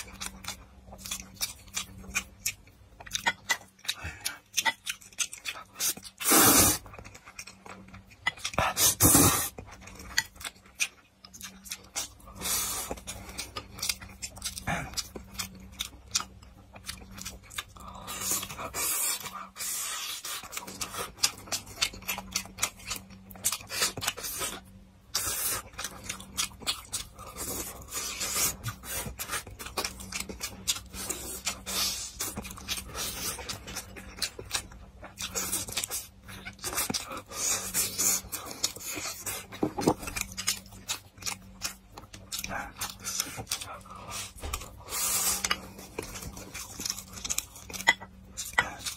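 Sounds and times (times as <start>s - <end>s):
wet chewing and lip-smacking: 0.0s - 48.9s.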